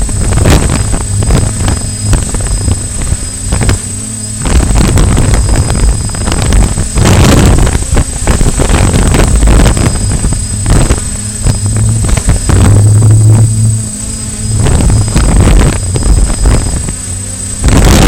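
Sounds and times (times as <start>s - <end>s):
quadcopter propellers humming: 0.0s - 18.0s
wind buffeting microphone: 0.0s - 18.0s.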